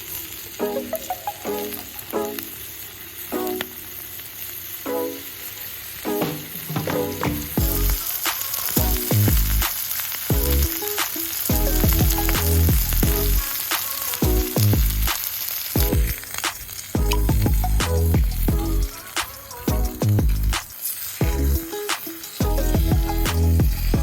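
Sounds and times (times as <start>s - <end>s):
background music: 0.0s - 15.2s, 15.8s - 24.0s
food sizzling in a pan: 0.0s - 24.0s.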